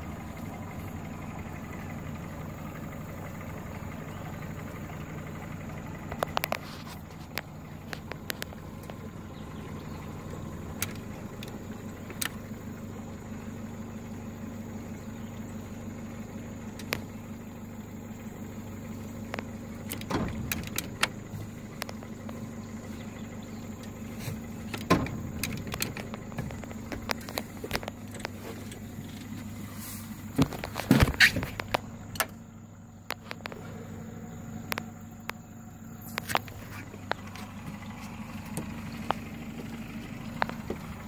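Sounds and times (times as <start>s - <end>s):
boat motor running: 0.0s - 41.0s.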